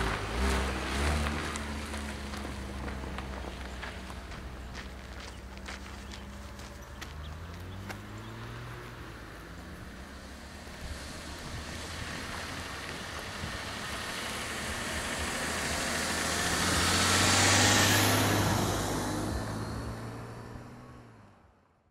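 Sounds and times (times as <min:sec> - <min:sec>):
car engine hum: 0:00.0 - 0:21.7.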